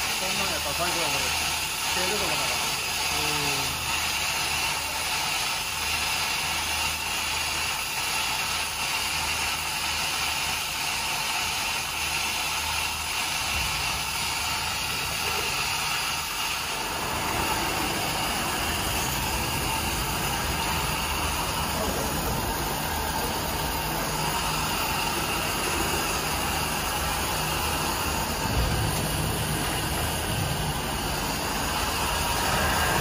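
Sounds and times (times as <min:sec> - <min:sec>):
pot boiling and bubbling: 0:00.0 - 0:33.0.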